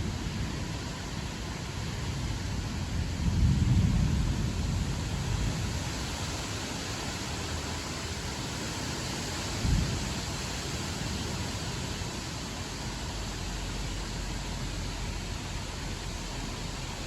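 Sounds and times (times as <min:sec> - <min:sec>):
rain hissing: 0:00.0 - 0:17.0.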